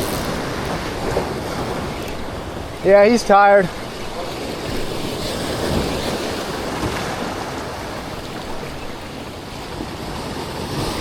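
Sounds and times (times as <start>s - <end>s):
waves and moving water: 0.0s - 11.0s.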